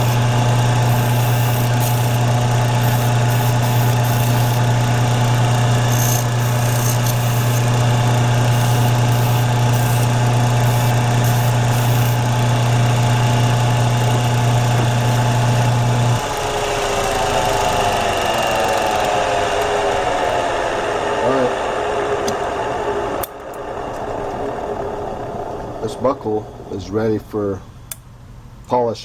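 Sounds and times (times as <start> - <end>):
motor winding down: 0.0 - 28.0
grinding machine humming: 0.0 - 28.6.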